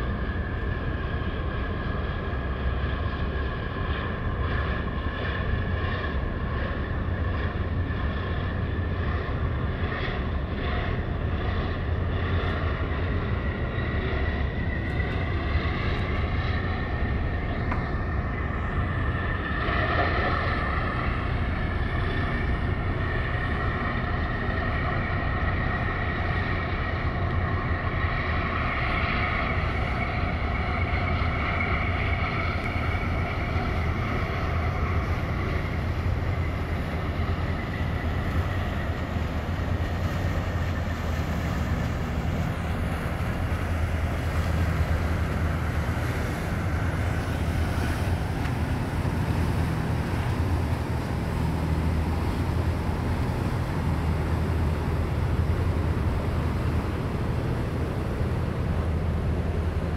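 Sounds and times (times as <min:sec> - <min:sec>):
boat wake hiss: 0:00.0 - 0:59.9
harbour water: 0:00.0 - 0:59.9
high boat engine whine: 0:00.0 - 0:59.9
low rumble of boat engines: 0:00.0 - 0:59.9.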